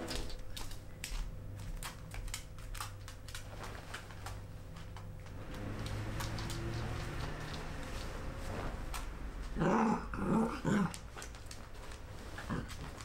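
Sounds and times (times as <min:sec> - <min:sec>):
bedding rustling: 0:00.0 - 0:13.0.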